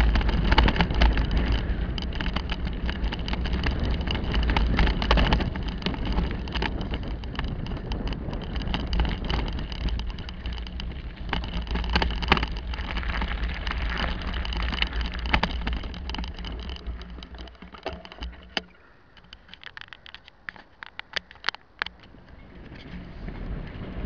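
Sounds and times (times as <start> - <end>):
bike rattling and knocking: 0.0 - 24.0
wind noise on microphone: 0.0 - 24.0.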